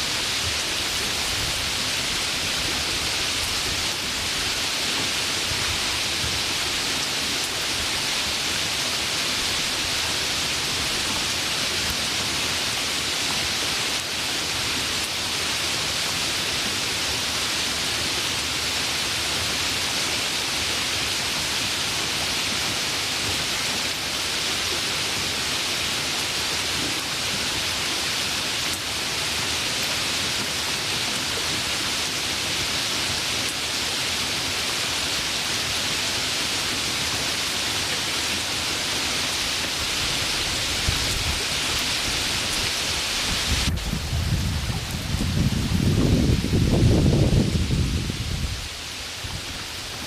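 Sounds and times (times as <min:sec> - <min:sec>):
rain hissing: 0:00.0 - 0:50.0.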